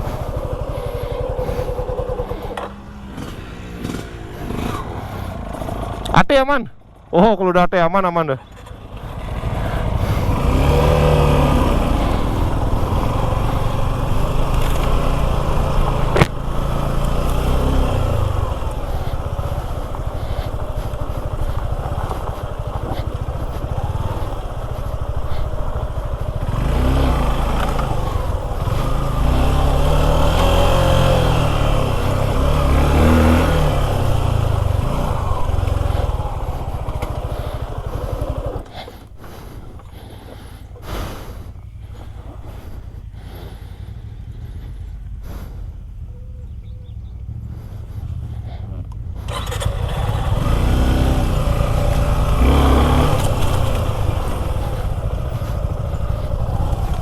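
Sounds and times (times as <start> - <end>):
motorcycle engine revving: 0.0 - 7.1, 8.4 - 57.0.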